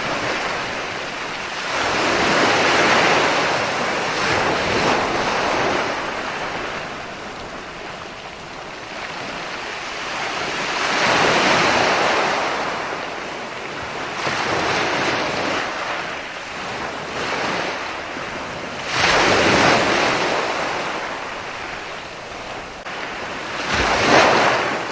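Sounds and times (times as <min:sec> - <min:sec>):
waves breaking and washing in: 0:00.0 - 0:24.9.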